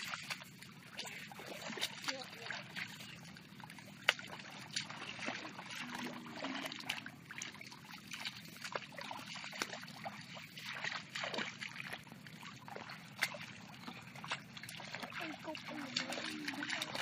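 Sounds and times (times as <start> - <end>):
hands splashing in shallow water: 0.0 - 17.0
wading sloshes: 0.0 - 17.0.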